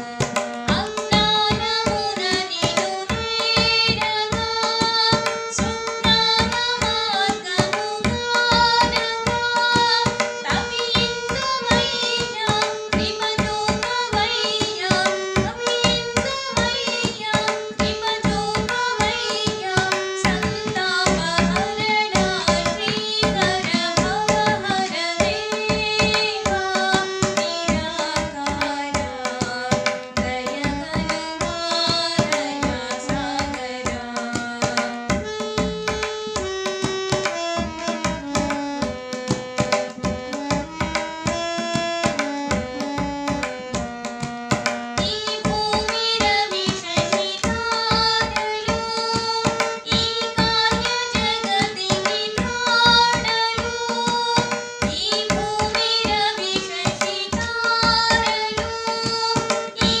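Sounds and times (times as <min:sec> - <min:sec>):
harmonium melody: 0:00.0 - 1:00.0
tabla playing a rhythm: 0:00.0 - 1:00.0
woman singing: 0:00.0 - 1:00.0.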